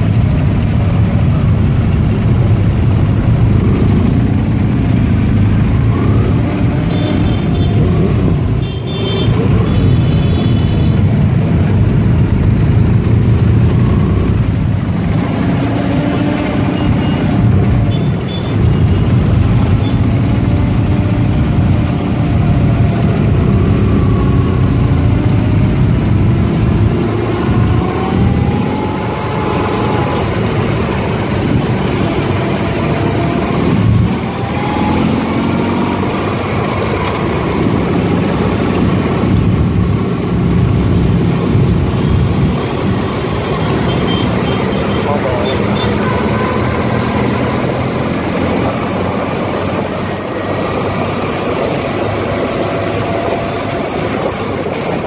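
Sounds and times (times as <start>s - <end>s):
motorcycle engine running: 0.0s - 55.0s
surrounding motorcycle engines: 0.0s - 55.0s.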